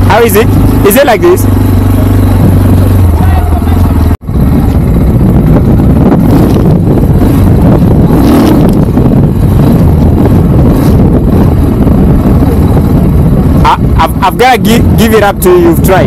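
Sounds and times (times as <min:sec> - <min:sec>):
motorcycle engine: 0:00.0 - 0:16.0
wind buffeting microphone: 0:01.5 - 0:16.0.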